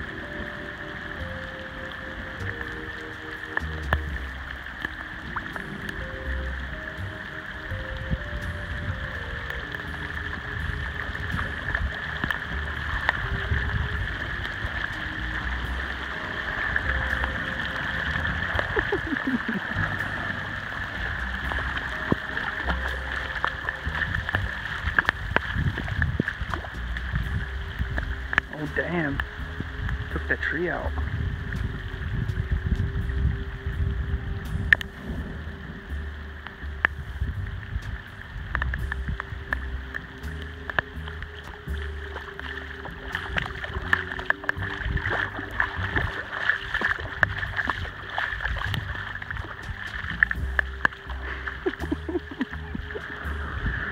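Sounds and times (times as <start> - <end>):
low rumble: 0.0 - 53.9
rain hissing on wet ground: 0.0 - 53.9.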